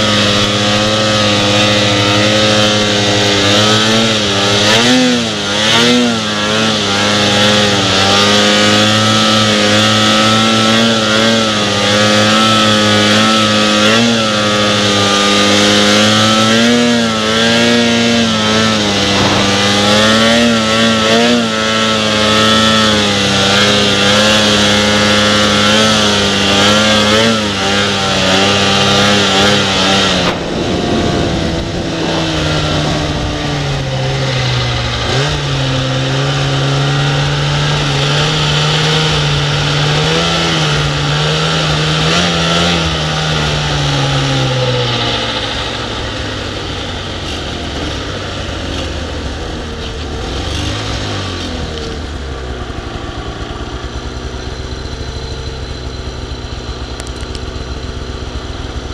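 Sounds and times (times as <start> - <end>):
distant snowmobile carving turns: 0.0 - 58.9
snowmobile engine at high revs: 0.0 - 58.9.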